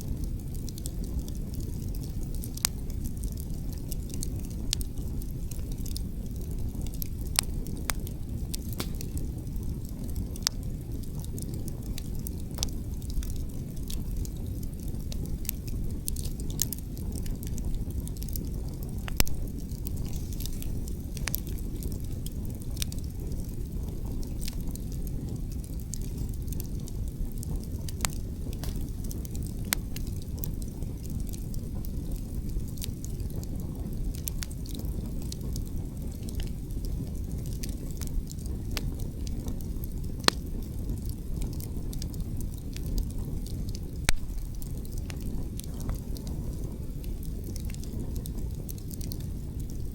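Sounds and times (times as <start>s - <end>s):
low rumble of wind: 0.0s - 49.9s
wood fire crackling: 0.0s - 49.9s
sharp pops from burning logs: 0.1s - 49.9s.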